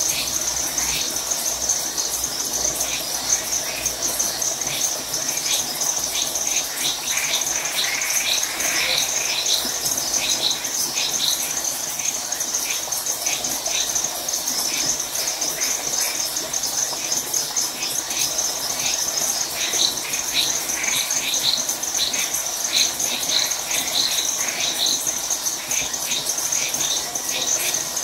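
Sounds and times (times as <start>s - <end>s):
crickets trilling: 0.0s - 28.0s
frogs calling: 0.0s - 28.0s.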